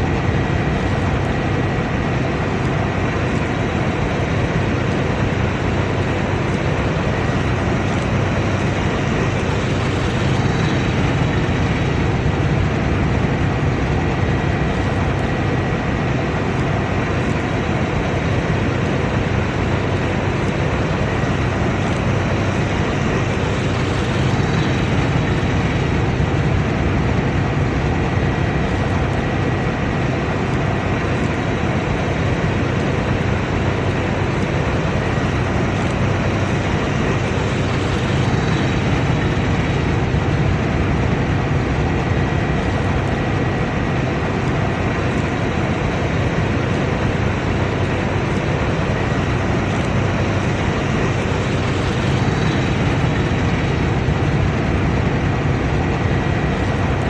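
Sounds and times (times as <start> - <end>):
combine harvester running: 0.0 - 57.0
faint steady machine whine: 0.0 - 57.0.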